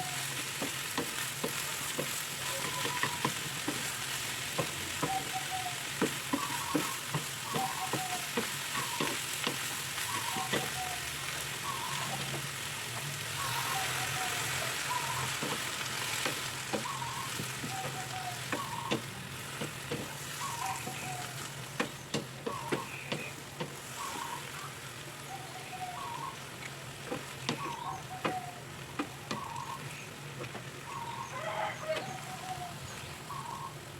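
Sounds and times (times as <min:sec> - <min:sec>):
food sizzling in a pan: 0:00.0 - 0:33.9.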